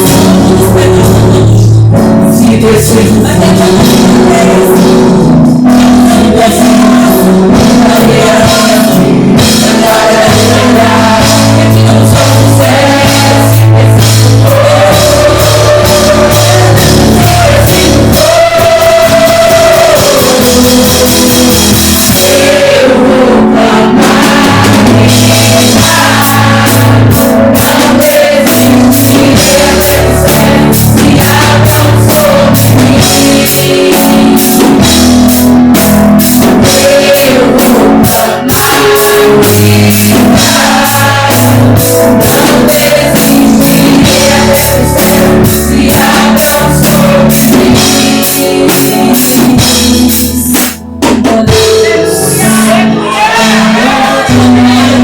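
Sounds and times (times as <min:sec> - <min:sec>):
person singing: 0:00.0 - 0:34.9, 0:36.4 - 0:55.0
band playing worship song: 0:00.0 - 0:55.0
drum kit beat: 0:00.0 - 0:55.0.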